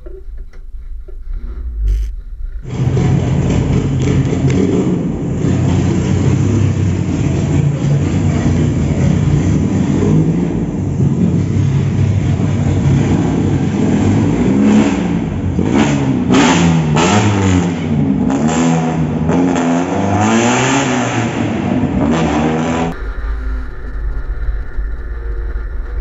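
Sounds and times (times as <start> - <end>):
car engine revving unsteadily: 1.4 - 26.0.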